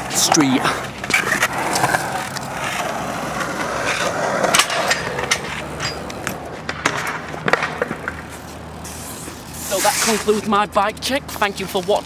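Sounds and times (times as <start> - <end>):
bike tyres rolling on hard ground: 0.0 - 12.0.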